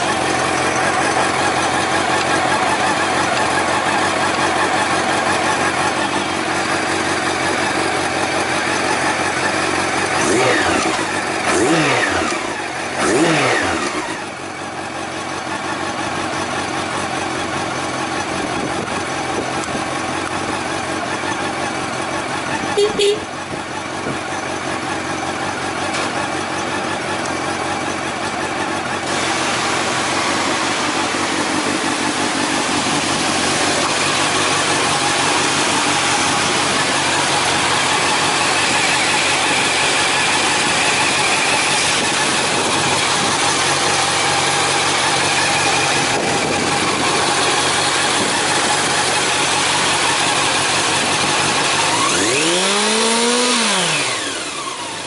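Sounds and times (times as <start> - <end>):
motorcycle engine idling: 0.0 - 55.0
motorcycle engine revving: 0.0 - 55.0.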